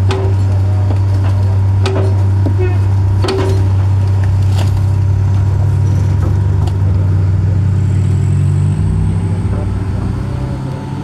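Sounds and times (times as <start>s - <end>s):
heavy engine droning: 0.0s - 11.0s.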